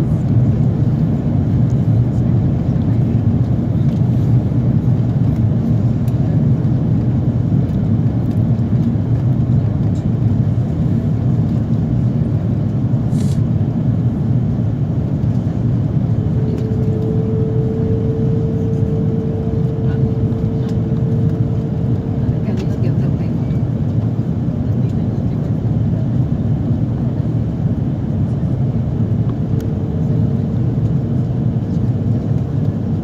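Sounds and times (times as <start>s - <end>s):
aircraft engine and airflow drone: 0.0s - 33.0s
mid-pitched hum: 0.0s - 33.0s.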